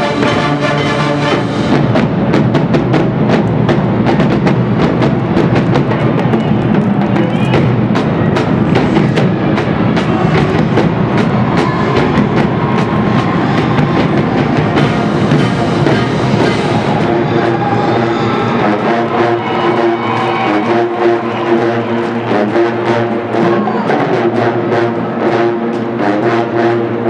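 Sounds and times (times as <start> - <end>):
drumline playing fast beat: 0.0 - 27.0.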